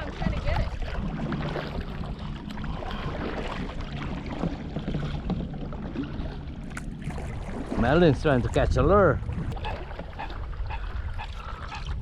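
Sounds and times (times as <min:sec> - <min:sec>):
paddle splashing and knocking: 0:00.0 - 0:12.0.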